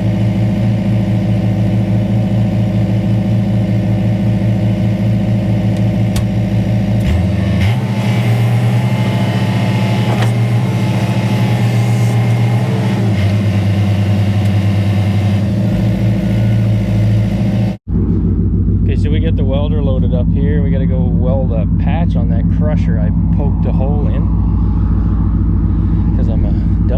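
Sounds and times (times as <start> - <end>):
engine running: 0.0 - 26.9.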